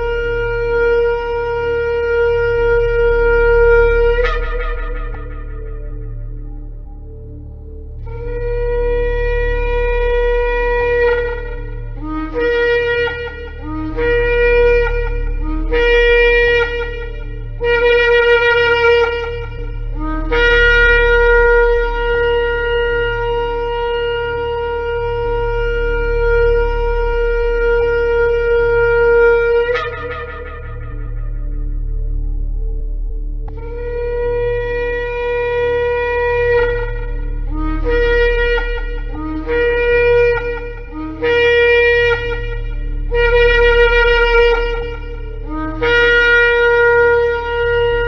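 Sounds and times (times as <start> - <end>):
shofar blasts: 0.0 - 48.0.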